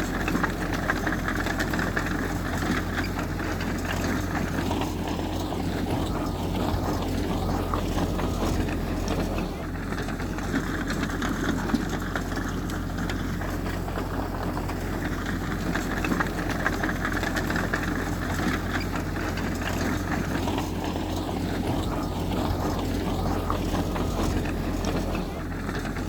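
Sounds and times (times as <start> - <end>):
heavy machinery engine drone: 0.0 - 26.0.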